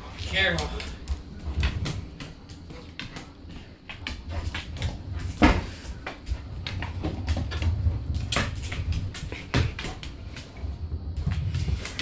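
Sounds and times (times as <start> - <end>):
bowling ball rolling on tiles: 1.0 - 12.0.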